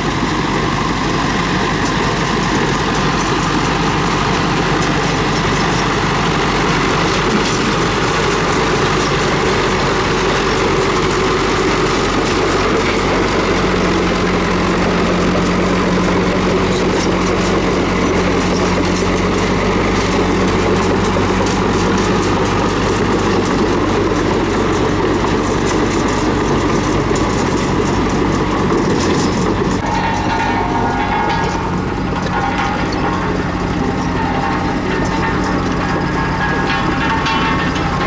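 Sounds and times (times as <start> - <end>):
bulldozer diesel engine running: 0.0 - 38.0
steel tracks rattling and clanking: 0.0 - 38.0.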